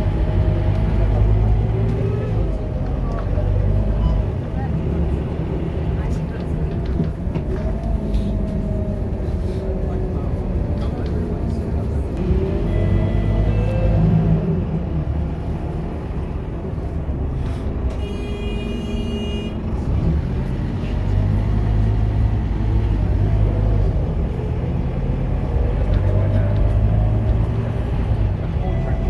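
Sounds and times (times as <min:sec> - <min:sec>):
bus diesel engine revving: 0:00.0 - 0:18.0, 0:19.6 - 0:29.0.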